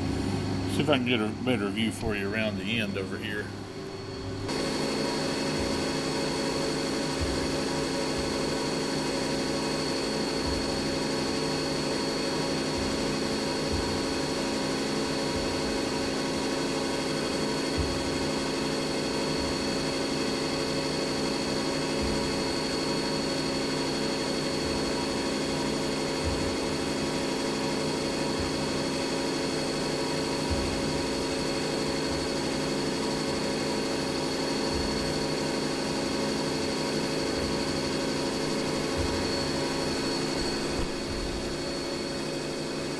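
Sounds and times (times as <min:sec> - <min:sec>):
machine hum: 0:00.0 - 0:42.9
milling machine high whine: 0:00.0 - 0:42.9.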